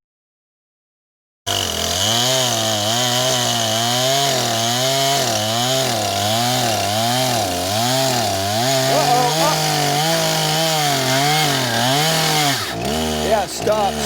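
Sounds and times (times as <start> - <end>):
chainsaw cutting into wood: 1.5 - 14.0.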